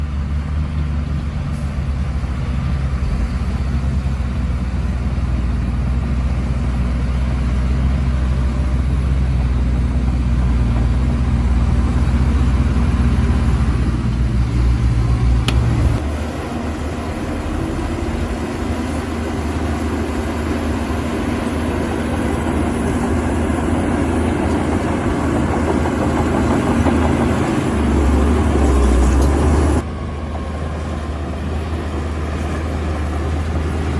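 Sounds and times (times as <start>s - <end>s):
bulldozer diesel engine hum: 0.0s - 33.9s
noisy higher machine sound: 2.4s - 33.9s.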